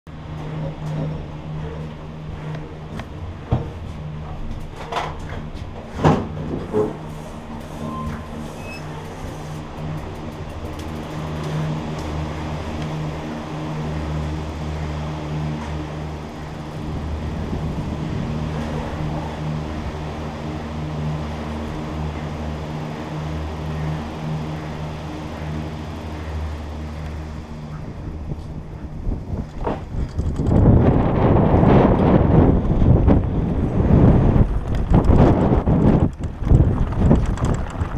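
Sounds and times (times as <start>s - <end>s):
higher pitched machine drone: 0.1s - 34.5s
machinery hum: 0.1s - 37.9s.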